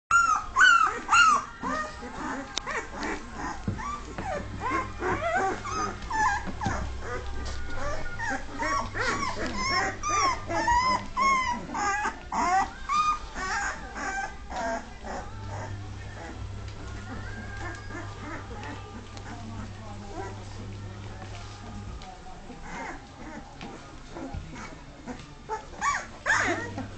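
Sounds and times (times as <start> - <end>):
puppies whimpering and squealing: 0.1 - 26.9.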